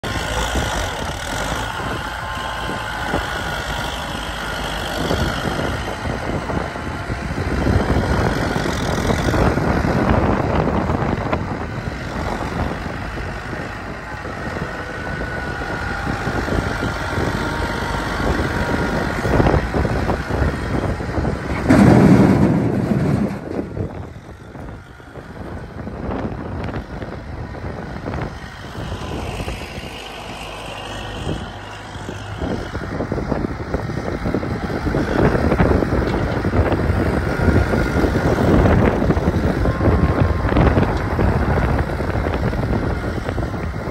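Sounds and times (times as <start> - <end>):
tractor diesel engine revving: 0.0 - 43.9.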